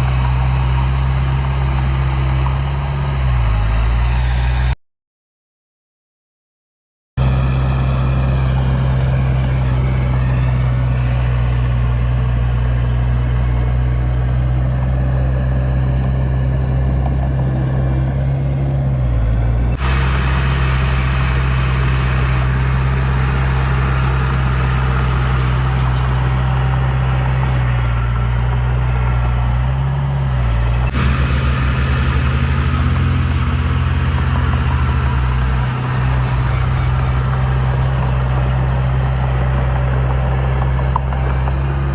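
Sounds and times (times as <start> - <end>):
heavy diesel engine under load: 0.0 - 4.8, 7.2 - 41.9.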